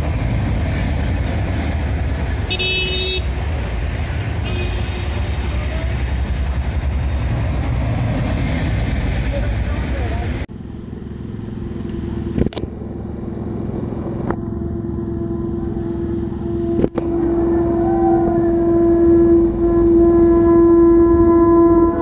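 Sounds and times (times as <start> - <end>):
diesel locomotive engine rumbling: 0.0 - 22.0.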